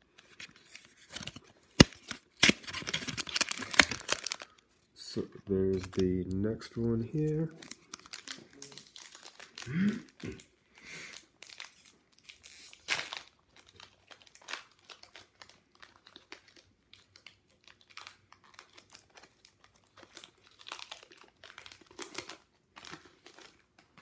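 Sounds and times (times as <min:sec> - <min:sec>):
foil wrapper crinkling and tearing: 0:00.2 - 0:04.7, 0:05.6 - 0:24.0.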